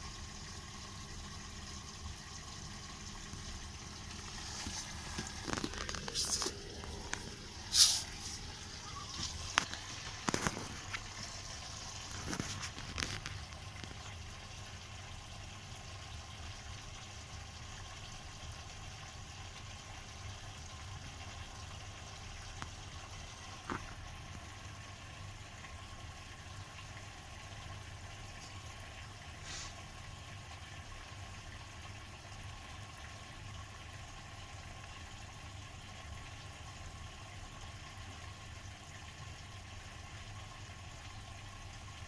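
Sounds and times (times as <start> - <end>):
washing machine filling with water: 0.0 - 42.0.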